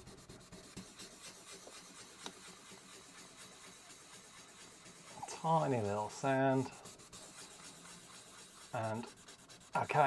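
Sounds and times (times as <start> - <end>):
sandpaper rubbing: 0.0 - 10.0.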